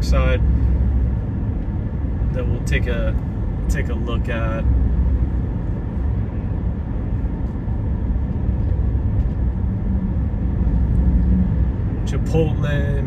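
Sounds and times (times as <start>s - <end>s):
road and engine rumble in truck cab: 0.0s - 13.0s.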